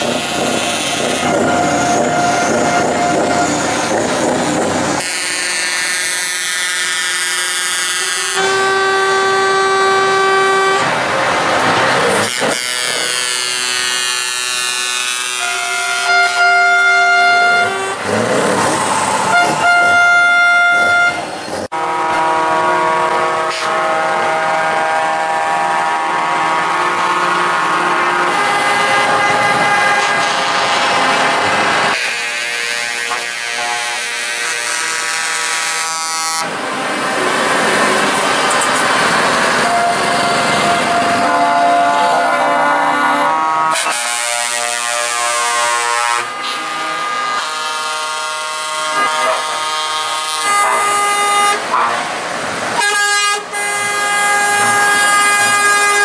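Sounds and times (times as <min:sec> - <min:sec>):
truck air horns chord: 0:00.0 - 0:52.2, 0:52.8 - 0:56.0
heavy trucks driving past: 0:00.0 - 0:56.0.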